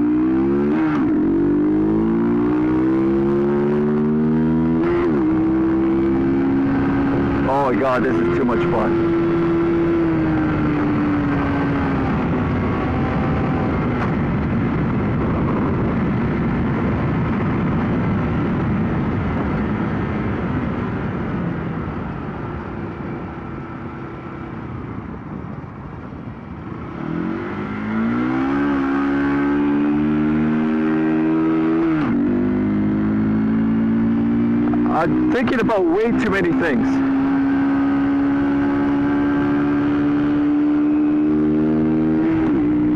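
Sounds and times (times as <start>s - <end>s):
motorcycle engine revving: 0.0s - 24.8s, 26.6s - 42.9s
wind rush: 0.0s - 42.9s.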